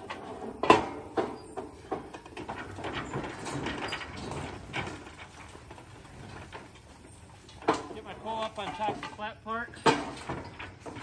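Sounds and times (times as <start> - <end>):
metal frame scraping ground: 0.0 - 11.0.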